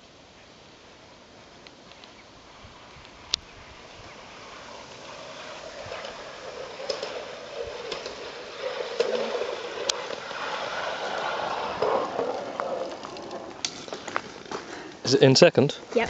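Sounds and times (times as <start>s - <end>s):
metal wheels rolling on rail track: 1.0s - 16.0s.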